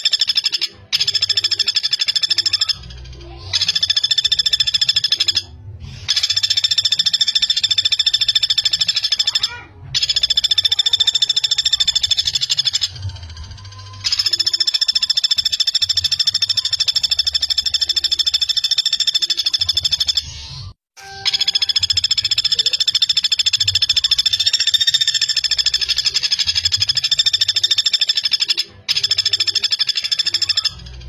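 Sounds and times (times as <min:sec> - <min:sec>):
woodpecker rattling trills: 0:00.0 - 0:05.5, 0:06.1 - 0:20.5, 0:21.2 - 0:31.0.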